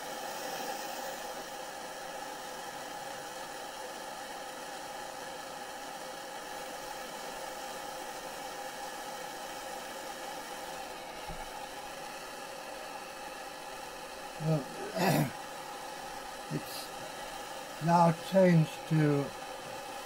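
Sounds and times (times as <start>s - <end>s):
gas torch hissing: 0.0s - 20.0s.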